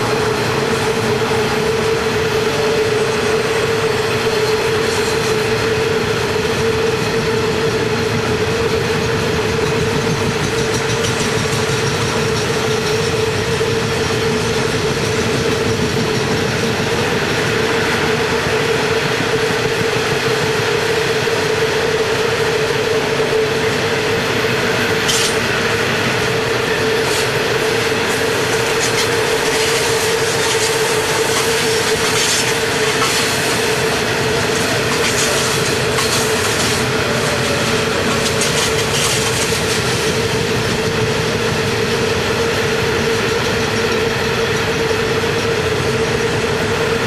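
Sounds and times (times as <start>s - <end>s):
train wagons rumbling and clattering: 0.0s - 47.0s.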